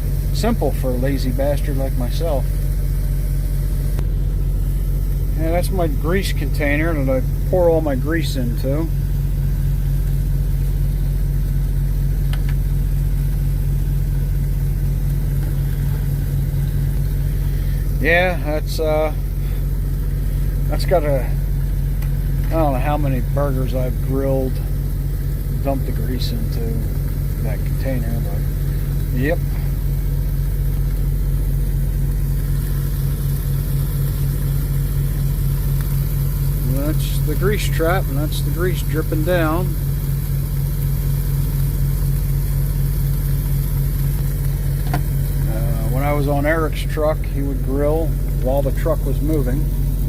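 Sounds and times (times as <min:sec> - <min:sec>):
diesel engine idling: 0:00.0 - 0:50.0.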